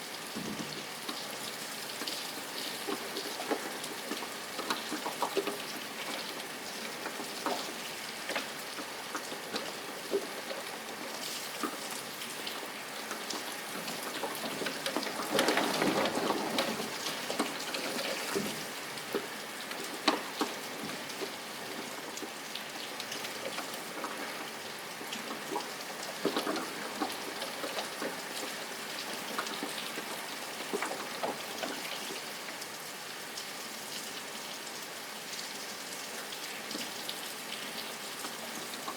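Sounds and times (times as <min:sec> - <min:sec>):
raindrops ticking on a surface: 0:00.0 - 0:38.9
steady rain: 0:00.0 - 0:38.9.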